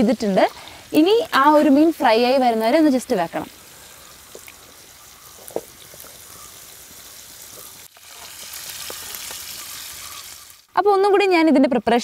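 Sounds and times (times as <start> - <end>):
fish sizzling in oil: 0.0 - 10.7.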